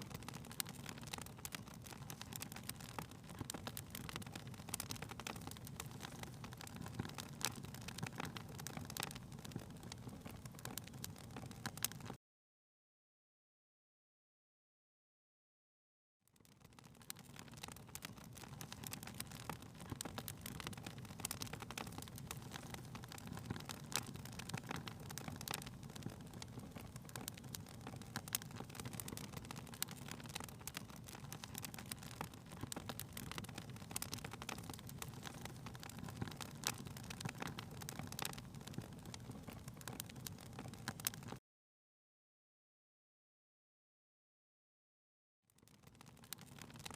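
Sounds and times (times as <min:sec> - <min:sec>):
fire pops and snaps: 0:00.0 - 0:12.2, 0:16.4 - 0:41.4, 0:45.6 - 0:46.9
low rumble of flames: 0:00.0 - 0:12.2, 0:16.5 - 0:41.4, 0:45.6 - 0:46.9.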